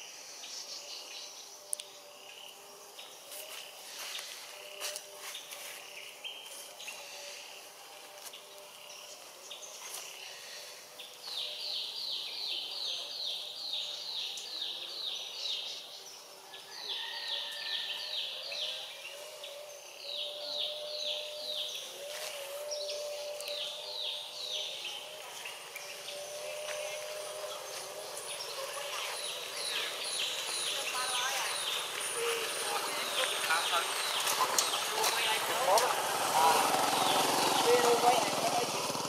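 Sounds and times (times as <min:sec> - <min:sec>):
faint insect-like hum: 0:00.0 - 0:35.8.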